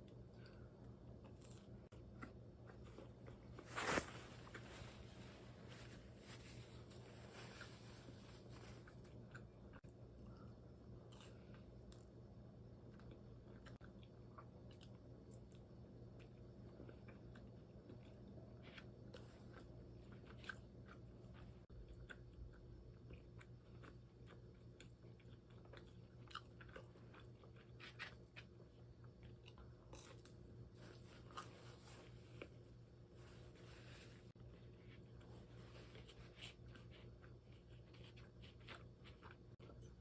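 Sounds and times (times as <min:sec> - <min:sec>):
chewing and crunching food: 0:00.0 - 0:40.0
low steady hum: 0:00.0 - 0:40.0.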